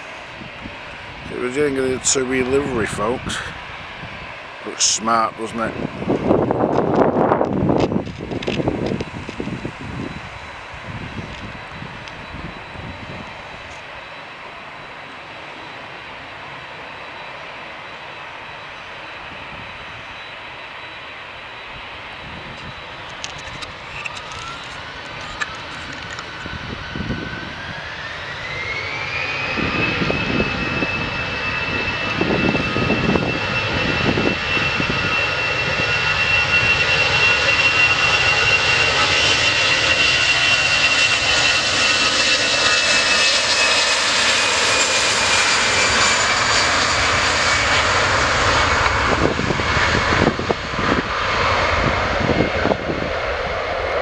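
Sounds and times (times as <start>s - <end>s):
jet engines spooling up: 0.0s - 54.0s.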